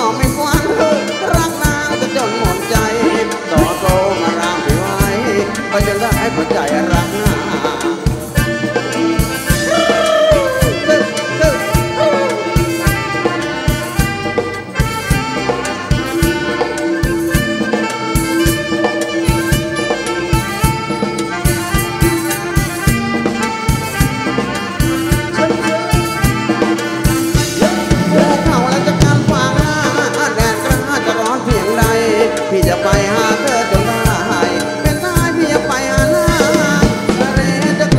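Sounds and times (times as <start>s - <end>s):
live band dance music: 0.0s - 37.9s
sliding lead melody: 0.0s - 37.9s
steady drum beat: 0.0s - 37.9s.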